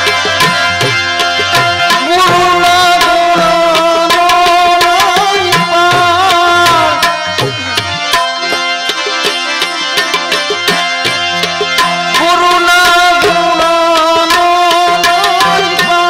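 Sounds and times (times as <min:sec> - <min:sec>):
tabla playing a steady beat: 0:00.0 - 0:16.0.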